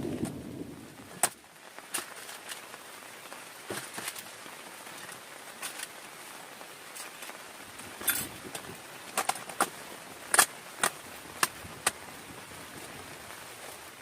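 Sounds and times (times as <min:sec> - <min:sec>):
large raindrops tapping: 0:00.0 - 0:14.0
steady rain hiss: 0:00.0 - 0:14.0.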